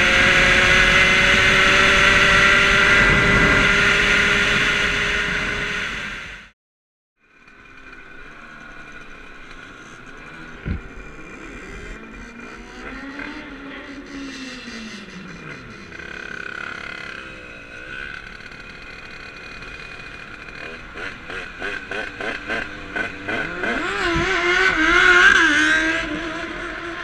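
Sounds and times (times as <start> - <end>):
two-stroke engine revving: 0.0 - 6.4, 7.3 - 27.0.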